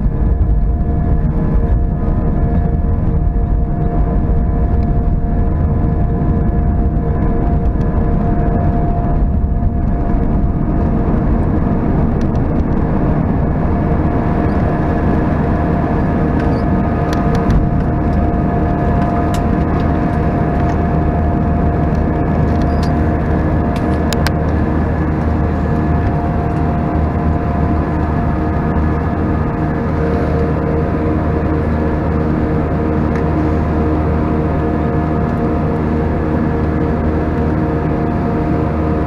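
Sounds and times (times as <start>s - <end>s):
airplane cabin engine roar: 0.0s - 39.0s
constant whine: 0.0s - 39.0s.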